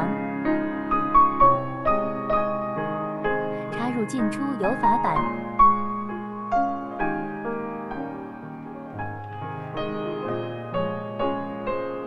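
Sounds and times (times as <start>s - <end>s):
slow gentle piano melody: 0.0s - 12.0s.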